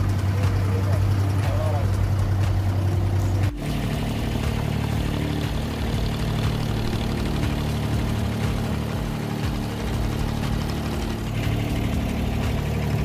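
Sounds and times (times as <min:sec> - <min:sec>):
boat diesel engine humming: 0:00.0 - 0:13.0.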